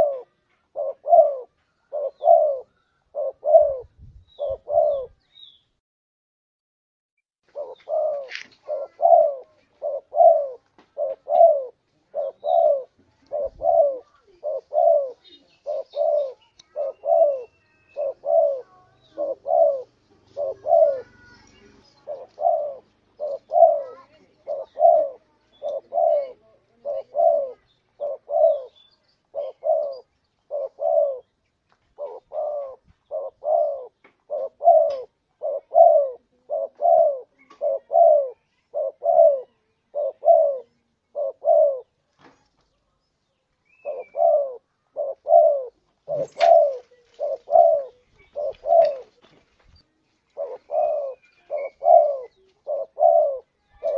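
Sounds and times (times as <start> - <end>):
dove cooing: 0.0 - 5.2, 7.5 - 42.0, 43.7 - 49.3, 50.2 - 53.9.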